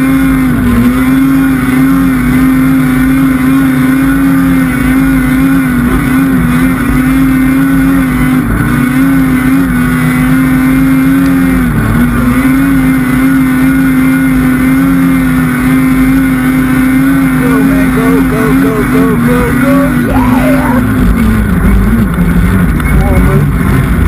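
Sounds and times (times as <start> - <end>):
snowmobile engine revving high: 0.0 - 24.0.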